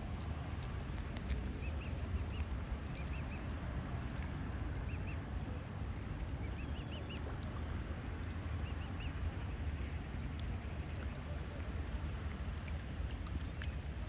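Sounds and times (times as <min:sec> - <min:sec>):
low outdoor rumble and hiss: 0:00.0 - 0:14.0.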